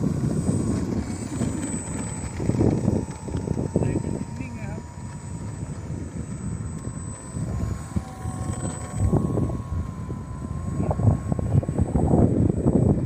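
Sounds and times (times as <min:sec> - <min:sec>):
model airplane motor drone: 0:00.0 - 0:13.0
wind buffeting microphone: 0:00.0 - 0:13.0.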